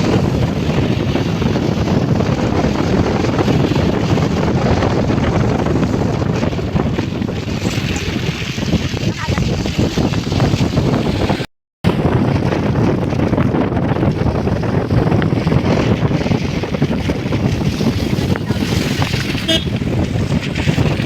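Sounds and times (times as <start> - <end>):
heavy rain: 0.0 - 21.0
wind buffeting microphone: 0.0 - 21.0.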